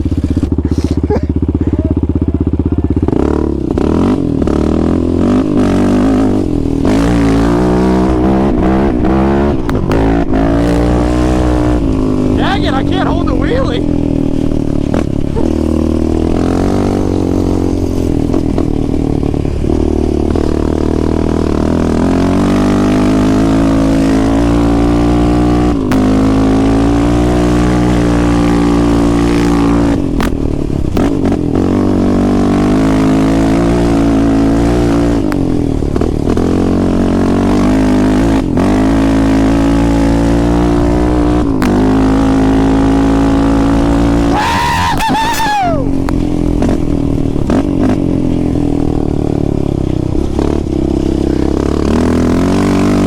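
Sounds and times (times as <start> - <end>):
quad engine revving: 0.0 - 53.0.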